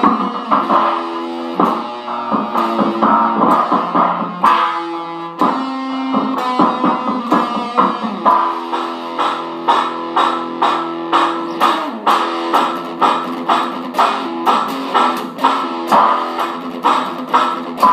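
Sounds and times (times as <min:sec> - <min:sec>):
electric guitar notes and chords: 0:00.0 - 0:17.9.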